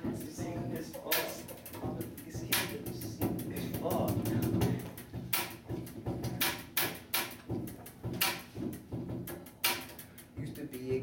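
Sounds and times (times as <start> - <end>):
hip-hop beat: 0.0 - 11.0.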